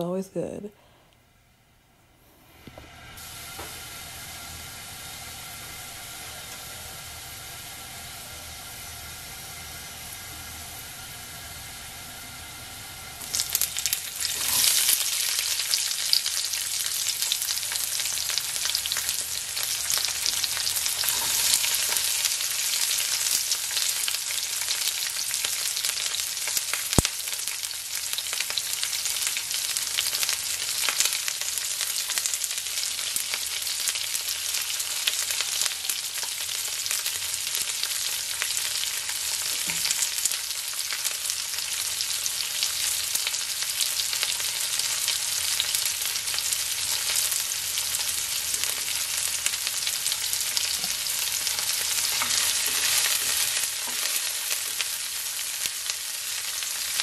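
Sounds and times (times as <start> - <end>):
onion sizzling in hot oil: 2.9 - 57.0.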